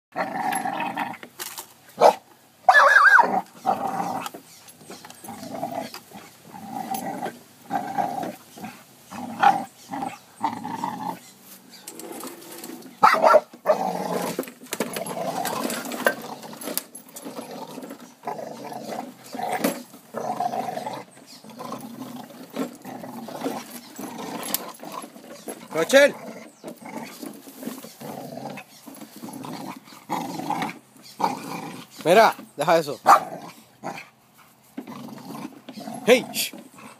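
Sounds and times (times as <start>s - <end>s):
dog growling: 0.1s - 1.2s, 2.8s - 11.3s, 12.0s - 32.3s, 33.0s - 34.1s, 34.8s - 36.9s.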